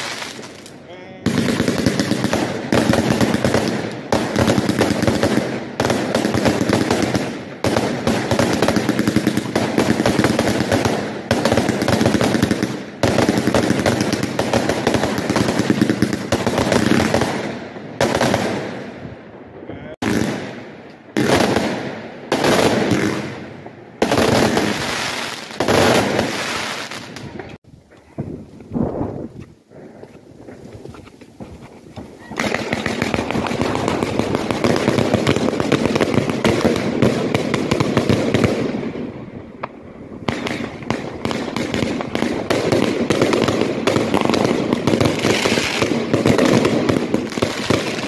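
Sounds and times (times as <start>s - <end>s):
fireworks firing and crackling: 0.0s - 19.2s, 20.0s - 48.0s.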